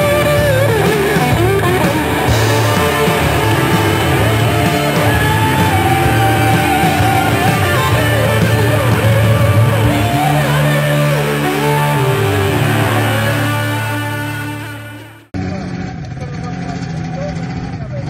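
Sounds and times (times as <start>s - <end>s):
rock music with guitar: 0.0s - 15.3s.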